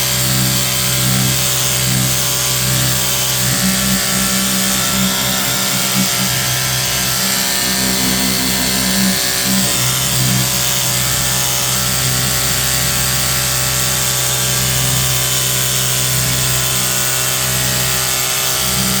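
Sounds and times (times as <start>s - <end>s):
pressure washer motor hum: 0.0s - 19.0s.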